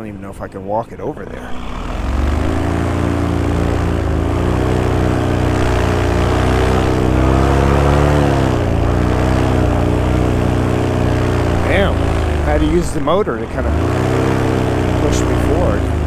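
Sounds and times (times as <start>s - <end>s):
paramotor engine and propeller: 0.0s - 16.0s.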